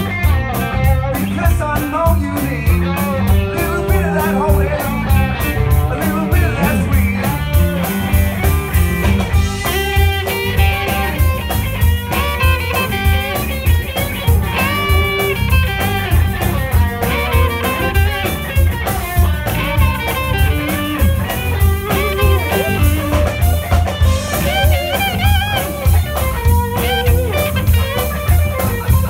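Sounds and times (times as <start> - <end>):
blues-rock band playing: 0.0 - 29.0
electric guitars: 0.0 - 29.0.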